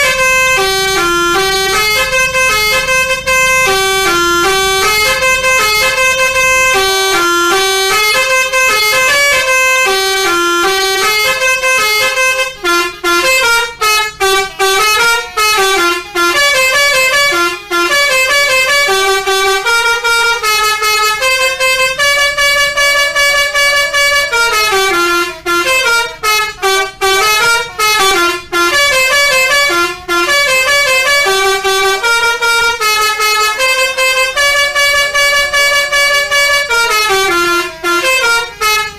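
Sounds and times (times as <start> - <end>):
bus musical air horn playing a tune: 0.0 - 38.9.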